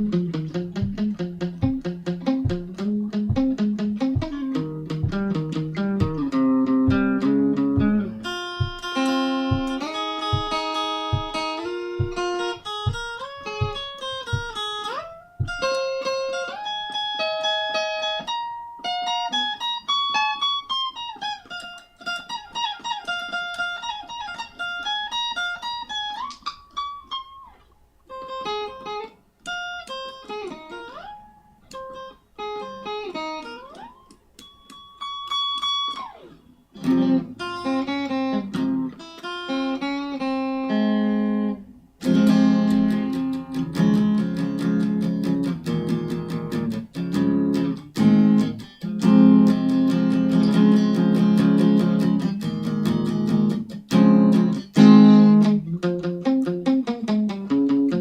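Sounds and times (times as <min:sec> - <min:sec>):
solo guitar picking: 0:00.0 - 0:58.0.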